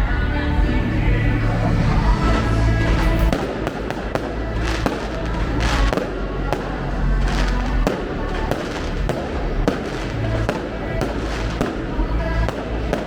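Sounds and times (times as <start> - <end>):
fireworks crackling: 0.0 - 13.0
loud music: 0.0 - 13.0
fireworks bangs: 1.1 - 13.0.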